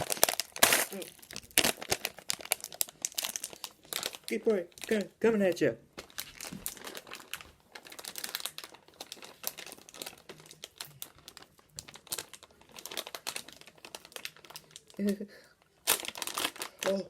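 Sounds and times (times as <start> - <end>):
food packet crinkling: 0.0 - 17.0.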